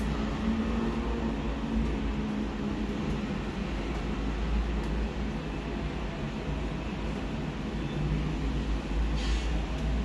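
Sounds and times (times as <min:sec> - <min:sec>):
electric train running past: 0:00.0 - 0:10.0.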